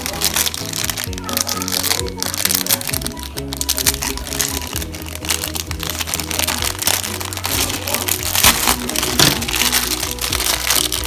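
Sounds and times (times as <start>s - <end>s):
background music repeating notes: 0.0s - 11.0s
plastic packaging crinkling: 0.0s - 11.0s.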